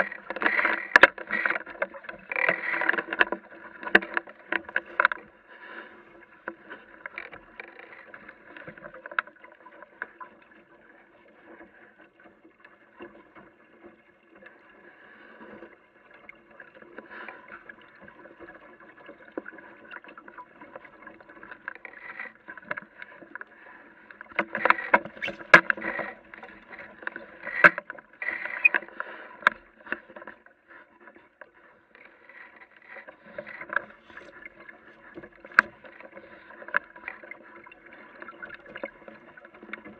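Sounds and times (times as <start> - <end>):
water lapping against boat hull: 0.0 - 39.9.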